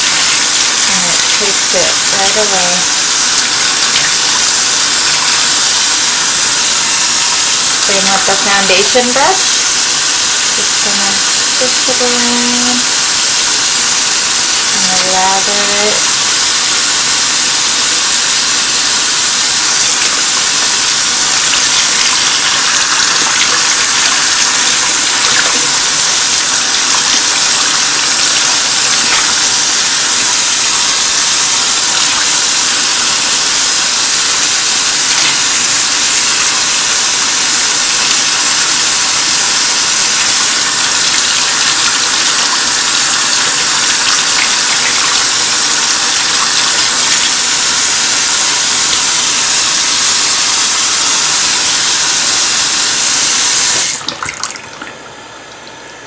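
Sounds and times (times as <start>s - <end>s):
faucet running into sink: 0.0s - 55.0s.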